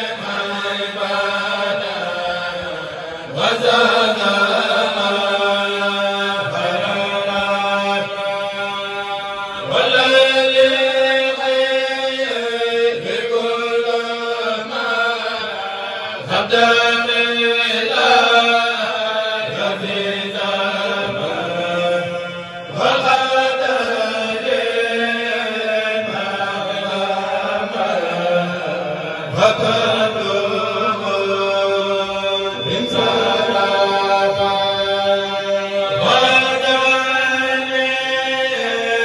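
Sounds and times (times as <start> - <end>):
men chanting through microphones: 0.0 - 39.0.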